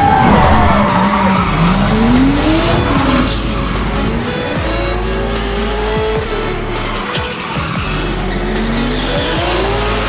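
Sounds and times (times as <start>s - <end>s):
background music: 0.0s - 10.0s
car engines revving: 0.0s - 10.0s.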